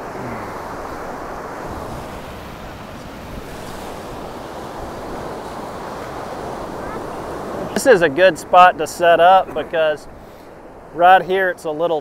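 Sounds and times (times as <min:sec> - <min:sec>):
wind buffeting microphone: 0:00.0 - 0:11.0
waves breaking on a beach: 0:00.0 - 0:12.0.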